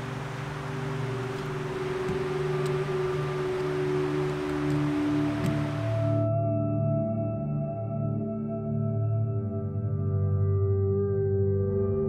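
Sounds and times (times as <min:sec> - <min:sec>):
ambient music sustained chords: 0:00.0 - 0:12.0.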